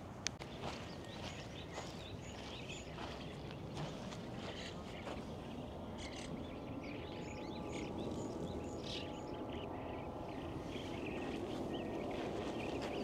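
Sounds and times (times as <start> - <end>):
low outdoor rumble: 0.0 - 13.0
small birds chirping: 0.2 - 13.0.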